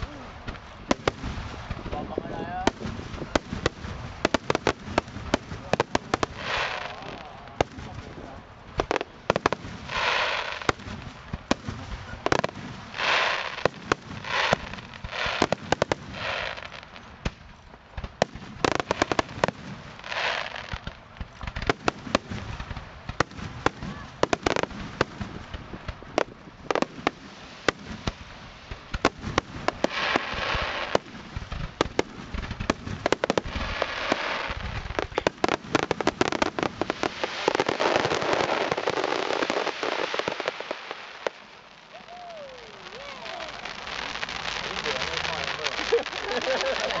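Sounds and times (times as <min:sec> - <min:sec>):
firework bangs: 0:00.0 - 0:47.0
firework crackling: 0:00.0 - 0:47.0.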